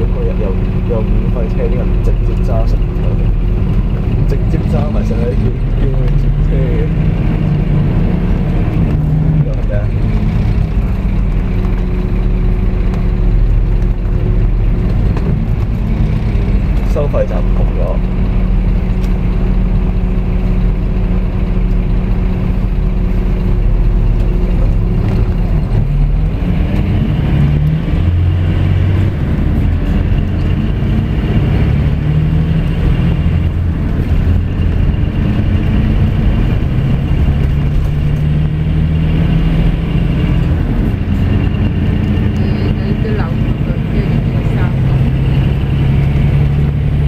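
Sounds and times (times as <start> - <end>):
diesel engine running: 0.0 - 47.0
road noise: 0.0 - 47.0.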